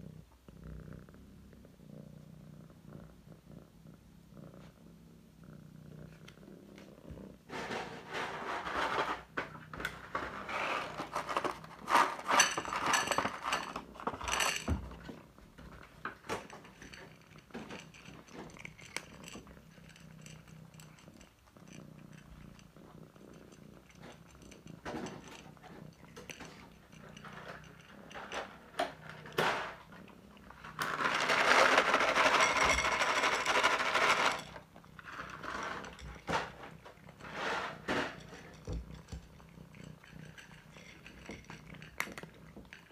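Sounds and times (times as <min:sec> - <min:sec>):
cat purring: 0:00.0 - 0:42.9
cats chewing and lapping: 0:06.1 - 0:42.9.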